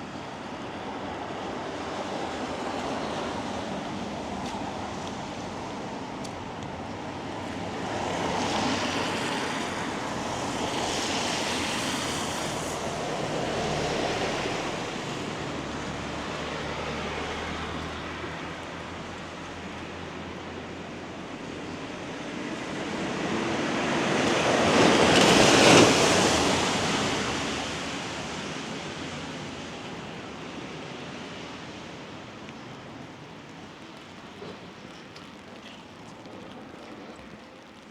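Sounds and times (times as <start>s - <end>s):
tyres hissing on wet road: 0.0s - 37.9s.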